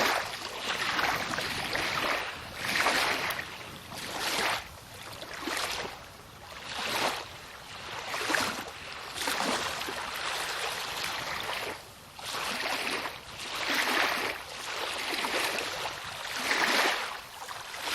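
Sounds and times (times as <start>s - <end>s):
water splashing around kayak hull: 0.0s - 17.9s.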